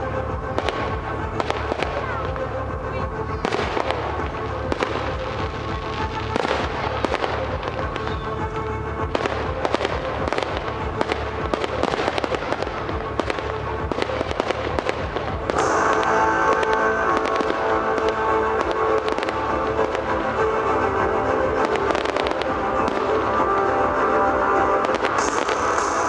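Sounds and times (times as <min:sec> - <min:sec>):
fireworks bangs and crackles: 0:00.0 - 0:26.0
music playing: 0:00.0 - 0:26.0.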